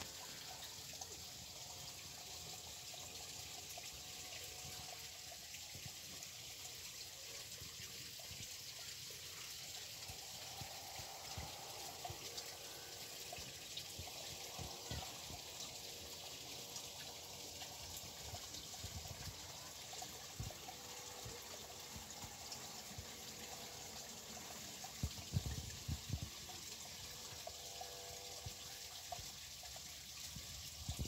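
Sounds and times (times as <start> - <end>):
stream trickling: 0.0 - 31.0.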